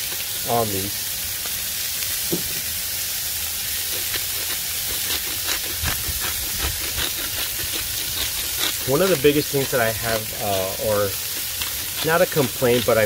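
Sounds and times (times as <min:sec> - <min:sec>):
burgers sizzling on griddle: 0:00.0 - 0:13.0
fat crackling and popping: 0:00.0 - 0:13.0.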